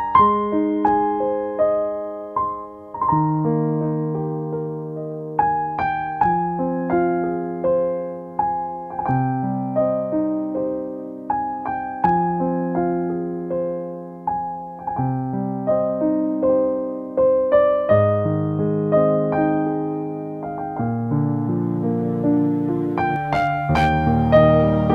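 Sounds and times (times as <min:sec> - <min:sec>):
soft piano music: 0:00.0 - 0:24.9.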